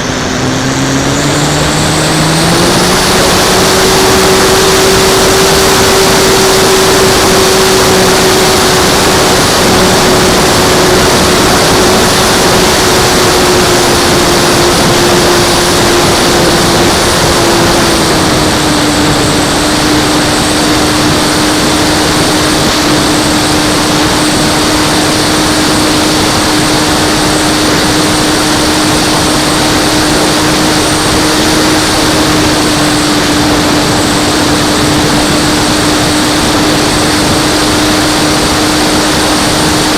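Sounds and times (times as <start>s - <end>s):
model plane motor whine: 0.0s - 39.9s
rush of air noise: 0.0s - 39.9s.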